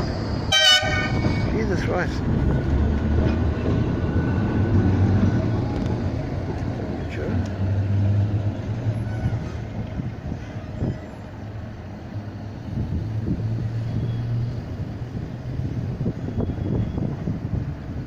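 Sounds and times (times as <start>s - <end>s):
tram electric hum and rumbling: 0.0s - 18.0s.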